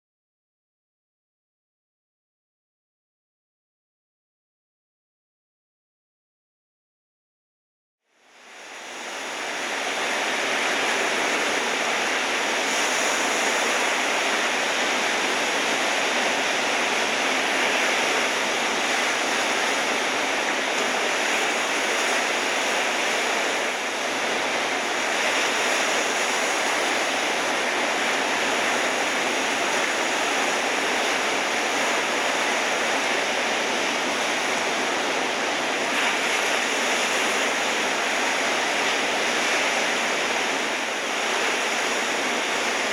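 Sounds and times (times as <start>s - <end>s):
ocean surf rushing: 8.2s - 42.9s.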